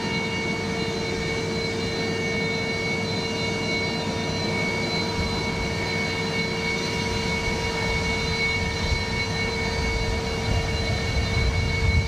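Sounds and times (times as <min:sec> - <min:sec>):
jet engines idling: 0:00.0 - 0:12.0.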